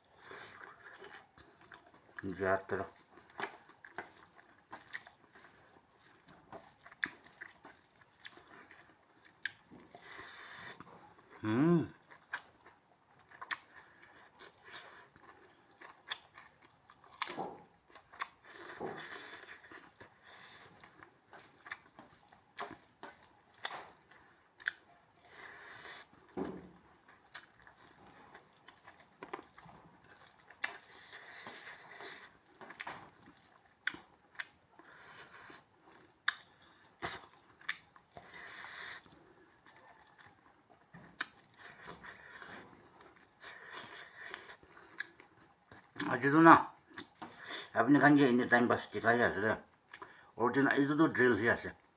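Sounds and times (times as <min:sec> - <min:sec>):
person chewing meat: 0:00.0 - 0:47.8, 0:49.6 - 0:50.4.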